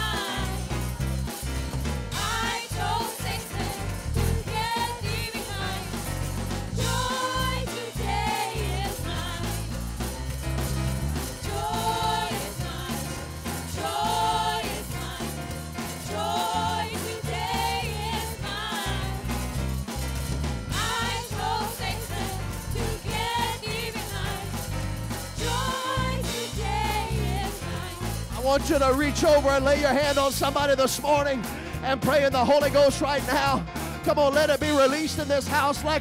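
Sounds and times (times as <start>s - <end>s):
singers singing gospel chorus: 0.0s - 20.0s, 20.7s - 30.5s
band with bass and drums: 0.0s - 36.0s.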